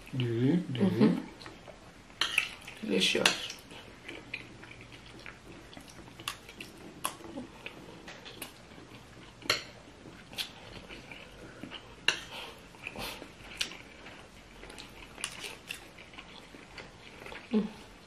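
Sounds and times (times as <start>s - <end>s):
faint chewing: 1.3s - 18.0s.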